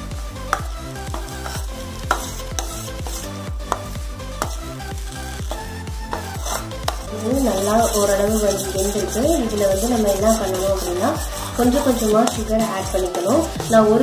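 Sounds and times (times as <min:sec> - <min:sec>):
background music: 0:00.0 - 0:14.0
ghee sizzling: 0:00.0 - 0:14.0
spoon scraping paste in pan: 0:00.5 - 0:14.0.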